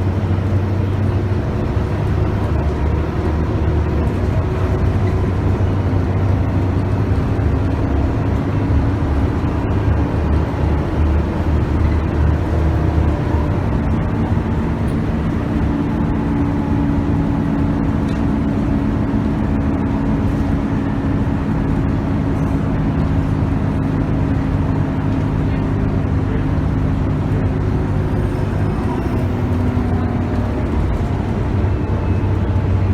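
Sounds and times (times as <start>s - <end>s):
bus diesel engine running: 0.0s - 32.9s
road noise: 0.0s - 32.9s.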